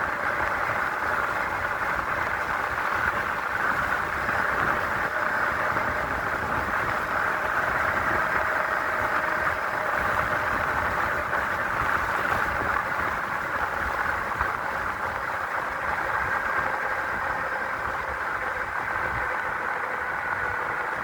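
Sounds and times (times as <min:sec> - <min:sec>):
road noise: 0:00.0 - 0:21.0
wind on microphone: 0:00.0 - 0:21.0.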